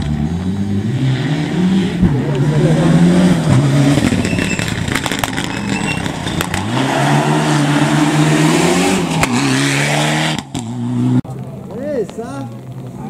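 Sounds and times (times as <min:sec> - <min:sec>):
car engine accelerating hard: 0:00.0 - 0:11.3.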